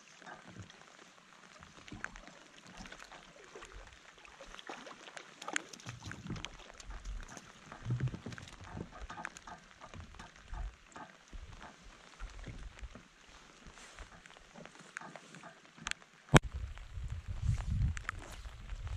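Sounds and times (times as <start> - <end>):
rain pattering on jacket and water: 0.0 - 18.9.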